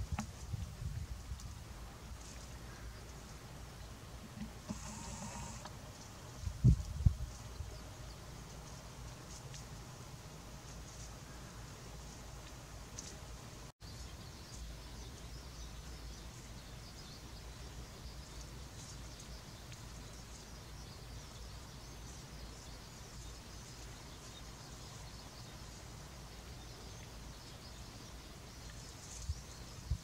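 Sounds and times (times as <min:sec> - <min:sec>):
low rumble and hiss: 0:00.0 - 0:30.0.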